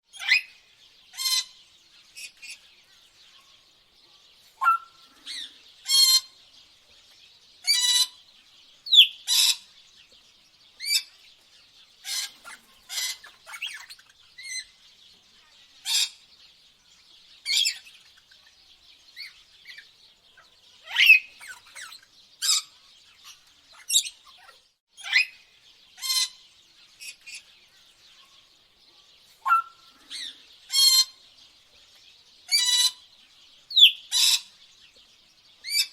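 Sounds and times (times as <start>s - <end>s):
tropical birds chirping and squawking: 0.0s - 35.9s.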